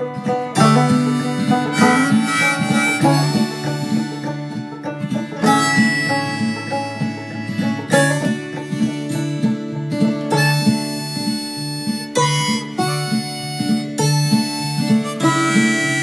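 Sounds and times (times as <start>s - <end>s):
upbeat acoustic music: 0.0s - 16.0s.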